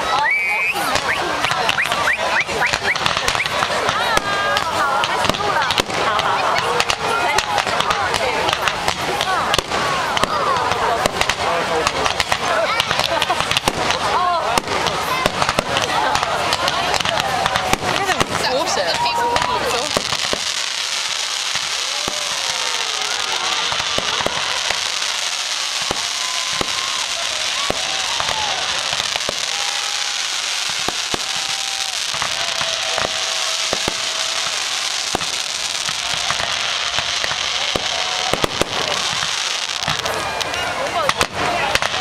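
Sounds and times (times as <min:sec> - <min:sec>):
fireworks bangs: 0:00.0 - 0:42.0
fireworks crackling: 0:00.0 - 0:42.0
fireworks whistling: 0:00.0 - 0:42.0.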